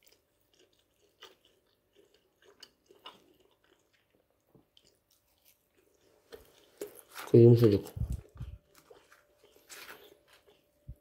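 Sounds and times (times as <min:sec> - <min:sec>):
chewing crisp pastry: 0:00.0 - 0:11.0.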